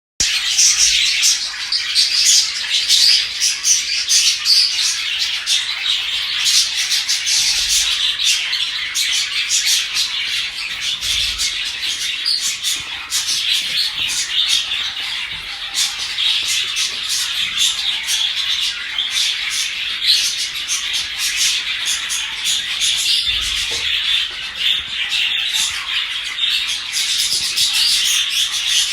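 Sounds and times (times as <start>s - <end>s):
budgerigars chattering: 0.2s - 28.9s.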